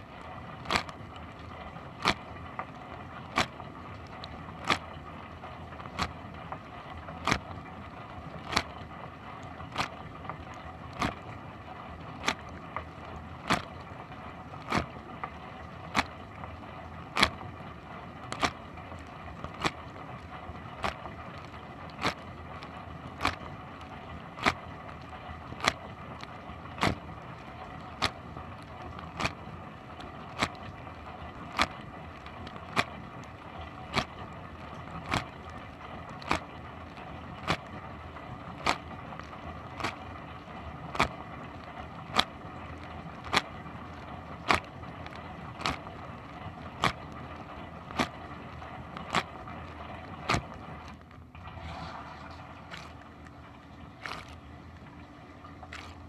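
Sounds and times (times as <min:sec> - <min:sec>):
water jet slapping: 0:00.0 - 0:56.0
dishwasher pump and water spray: 0:01.9 - 0:16.3, 0:17.1 - 0:56.0.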